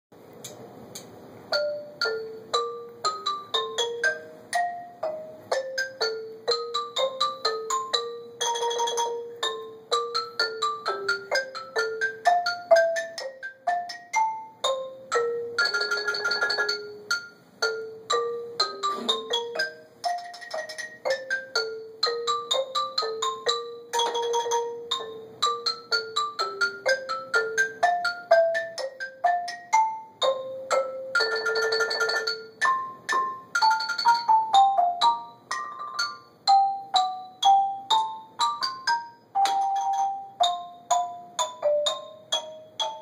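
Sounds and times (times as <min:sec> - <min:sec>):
mallet keyboard duet: 0:01.0 - 0:43.0.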